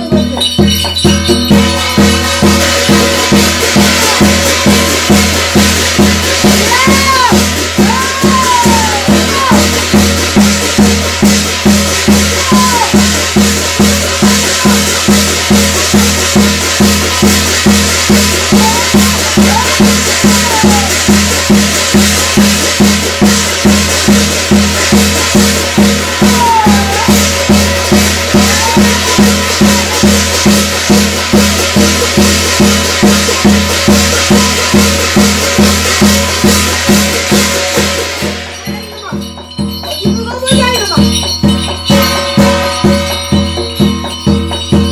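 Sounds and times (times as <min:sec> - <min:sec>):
drum beating steady rhythm: 0:00.0 - 0:44.9
shimmering cymbals or rattles: 0:00.0 - 0:44.9.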